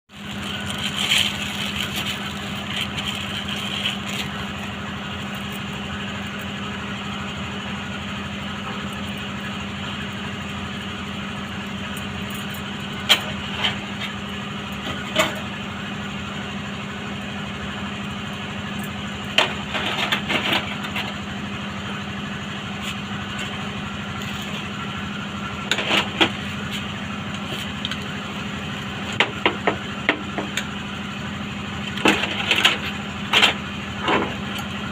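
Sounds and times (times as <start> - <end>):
machine hum: 0.1 - 34.9.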